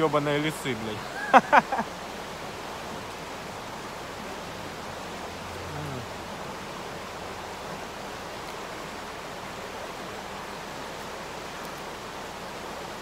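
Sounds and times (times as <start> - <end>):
river rushing over rapids: 0.0 - 13.0.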